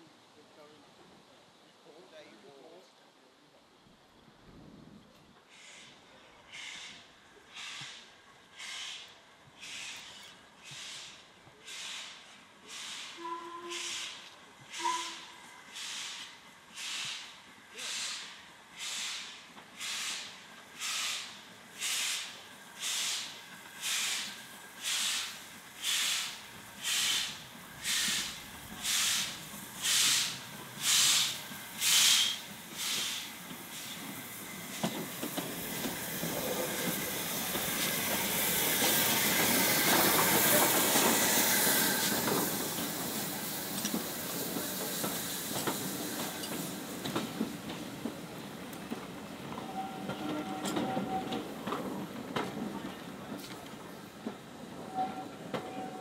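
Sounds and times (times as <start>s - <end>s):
steam locomotive chuffing: 5.5s - 56.0s.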